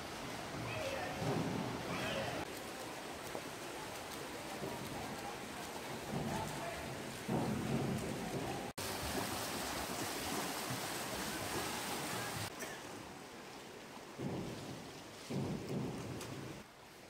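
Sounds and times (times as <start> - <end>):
swimmers splashing: 0.0 - 16.7.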